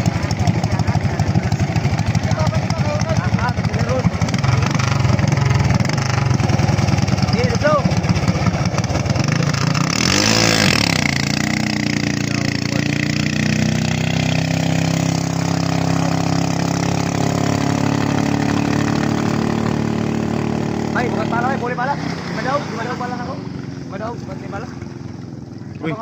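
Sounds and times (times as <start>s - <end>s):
racing boat engine revving: 0.0s - 26.0s.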